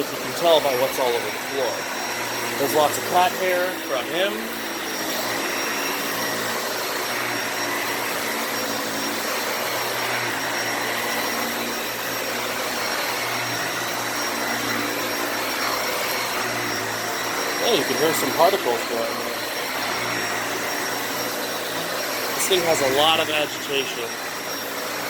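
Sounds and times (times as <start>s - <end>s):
vacuum cleaner running on carpet: 0.0s - 25.0s.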